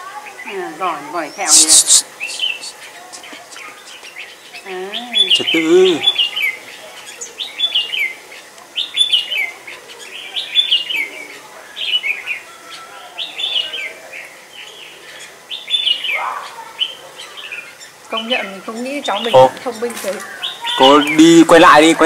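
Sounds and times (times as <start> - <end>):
songbird warbling: 0.2 - 22.0.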